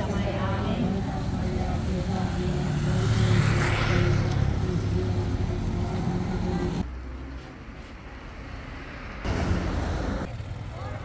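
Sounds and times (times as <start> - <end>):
outdoor noise: 0.0 - 11.0
vehicle engine hum: 0.0 - 11.0.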